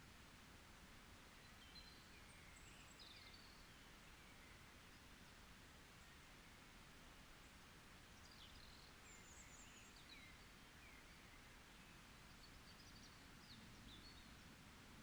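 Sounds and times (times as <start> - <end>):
steady background hiss: 0.0 - 15.0
faint birdsong chirps: 1.1 - 15.0.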